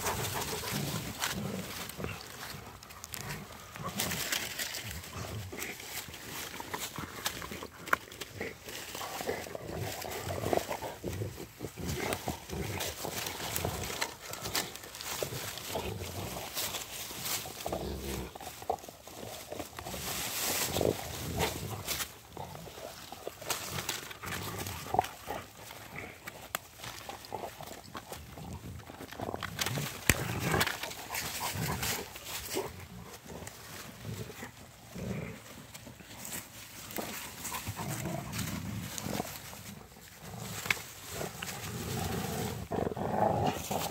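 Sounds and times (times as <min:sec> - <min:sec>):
dogs play-growling: 0:00.0 - 0:43.9
twigs and dry leaves crackling: 0:00.0 - 0:43.9.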